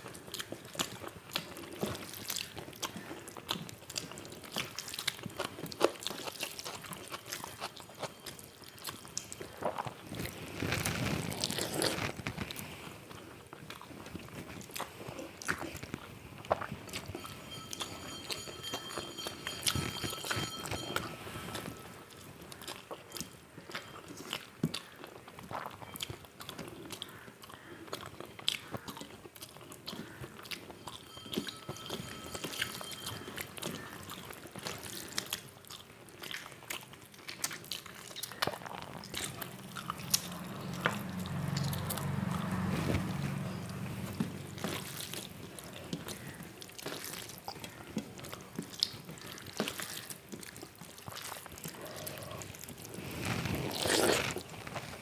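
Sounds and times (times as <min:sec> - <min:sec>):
person chewing with wet clicks: 0:00.0 - 0:17.8, 0:21.5 - 0:31.6, 0:32.4 - 0:55.0.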